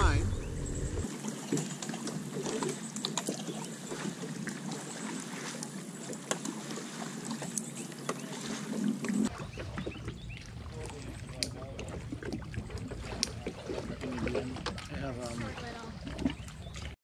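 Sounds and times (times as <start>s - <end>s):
water lapping against hulls: 0.0s - 17.0s.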